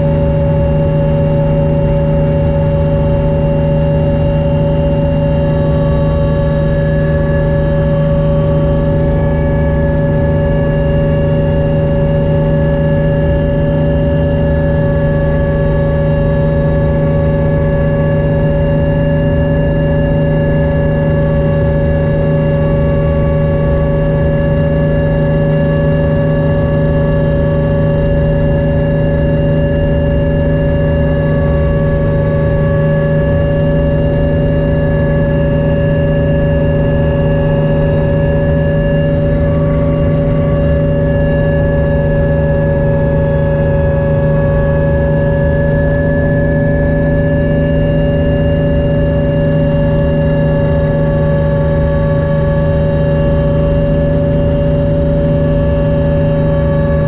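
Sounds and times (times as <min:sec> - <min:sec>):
helicopter cabin drone: 0:00.0 - 0:57.0.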